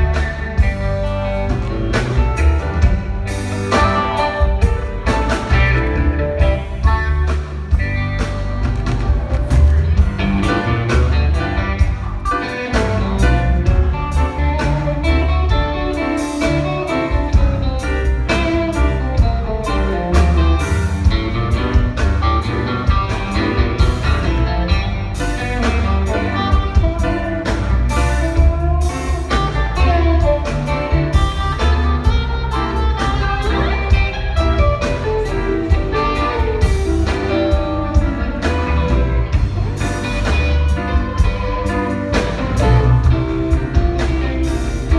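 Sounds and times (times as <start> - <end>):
rock band playing: 0.0 - 44.9.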